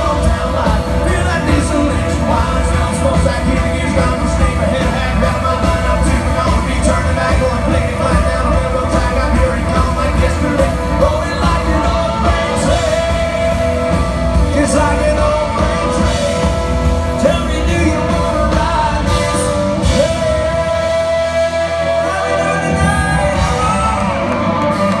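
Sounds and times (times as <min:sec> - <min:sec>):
live country band playing: 0:00.0 - 0:25.0
male lead vocal: 0:00.0 - 0:25.0.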